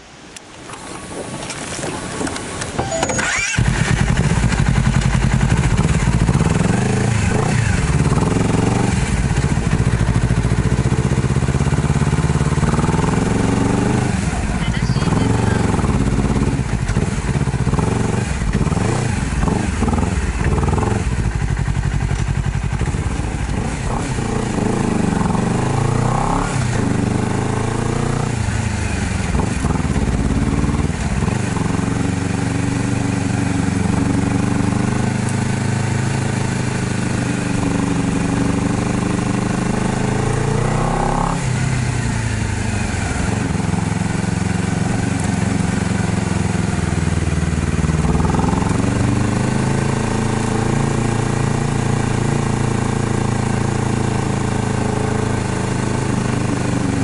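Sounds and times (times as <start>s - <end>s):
motorcycle engine revving: 2.9s - 57.0s.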